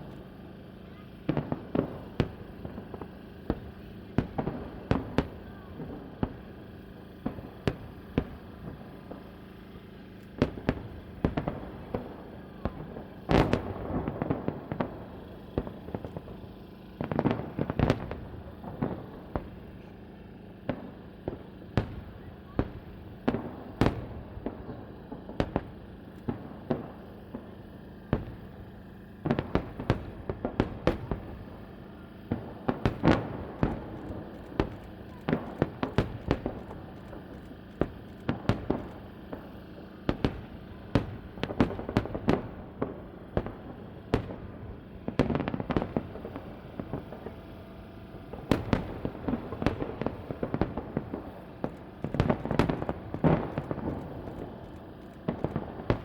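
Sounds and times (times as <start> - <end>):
fireworks bangs echoing: 0.0 - 56.0.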